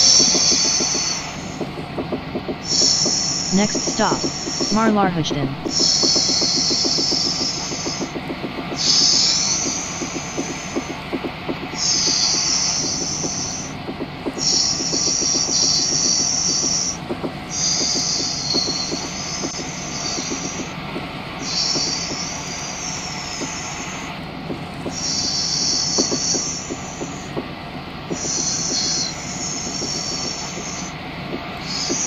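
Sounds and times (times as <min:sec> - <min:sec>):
rapid clicking of wheels: 0:00.0 - 0:04.7, 0:05.6 - 0:32.0
train wheels squealing on rails: 0:00.0 - 0:05.0, 0:05.6 - 0:24.2, 0:24.8 - 0:32.0
train rumble: 0:00.0 - 0:32.0.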